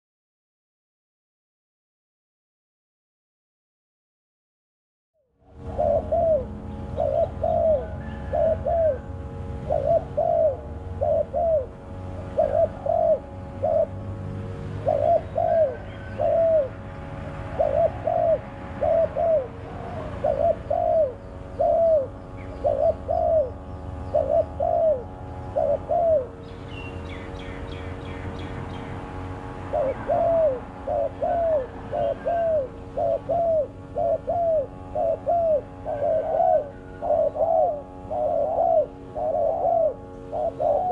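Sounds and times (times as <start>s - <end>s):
dove cooing: 5.4s - 40.9s
steady low hum: 5.4s - 40.9s.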